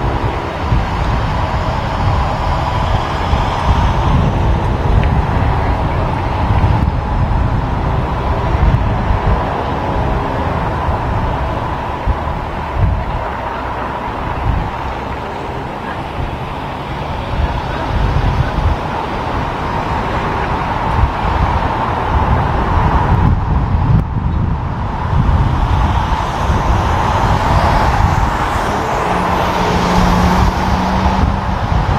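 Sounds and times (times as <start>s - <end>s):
biplane engines droning: 0.0s - 31.9s
low rumble: 0.0s - 31.9s.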